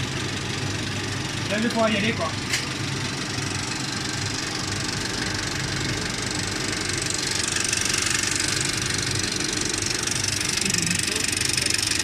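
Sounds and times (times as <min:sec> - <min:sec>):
film projector whirring: 0:00.0 - 0:12.0.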